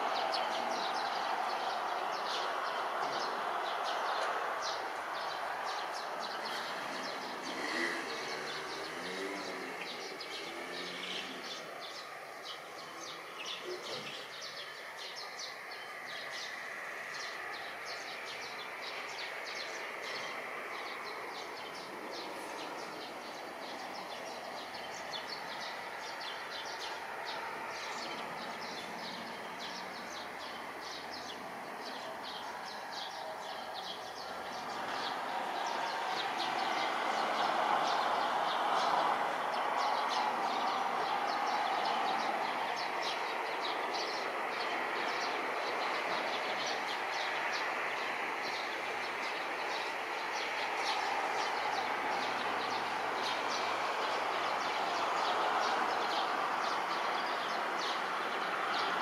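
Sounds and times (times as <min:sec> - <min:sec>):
distant background noise: 0:00.0 - 0:59.0
small birds chirping: 0:00.0 - 0:59.0.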